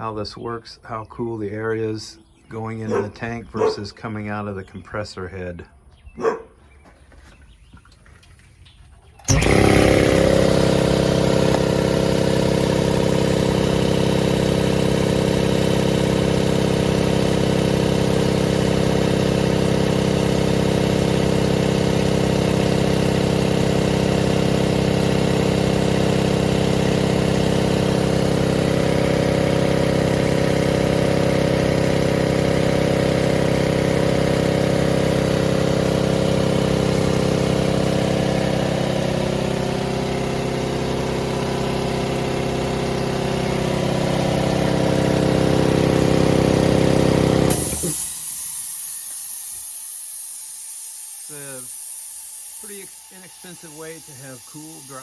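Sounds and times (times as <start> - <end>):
air compressor running: 9.1 - 55.0.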